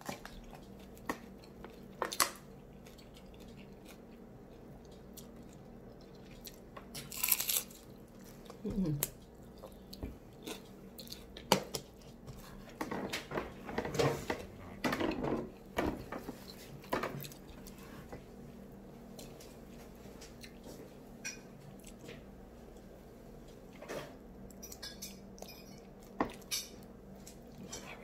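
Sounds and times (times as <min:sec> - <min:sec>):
crackly chewing: 0:00.0 - 0:28.0.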